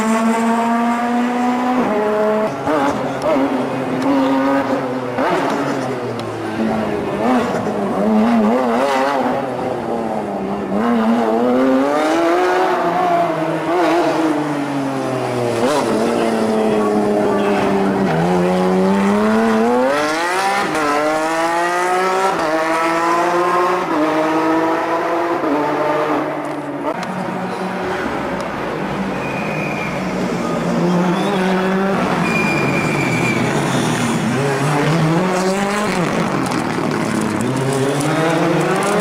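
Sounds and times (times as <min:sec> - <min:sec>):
race car engine revving: 0:00.0 - 0:29.0, 0:29.9 - 0:39.0.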